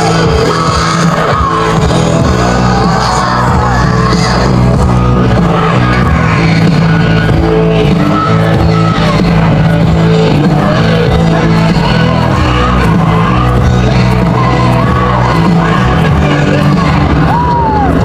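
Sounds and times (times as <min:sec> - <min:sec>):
rock music with singing: 0:00.0 - 0:18.0.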